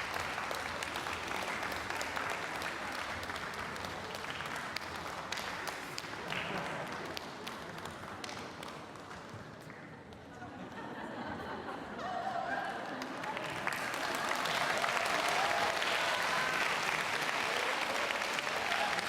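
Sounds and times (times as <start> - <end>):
audience applauding: 0.0 - 9.3, 12.7 - 19.0.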